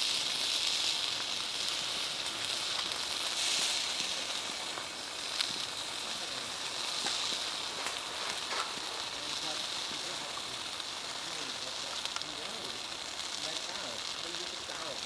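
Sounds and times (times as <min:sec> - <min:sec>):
fire crackling: 0:00.0 - 0:15.0
ribs sizzling on a grill: 0:00.0 - 0:15.0.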